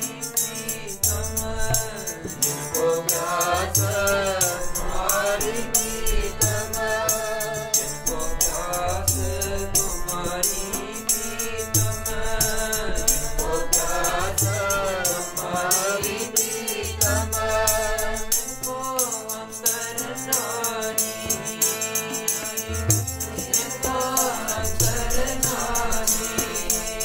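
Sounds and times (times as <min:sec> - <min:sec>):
harmonium tones: 0:00.0 - 0:27.0
tabla: 0:00.0 - 0:27.0
voices singing: 0:00.0 - 0:27.0.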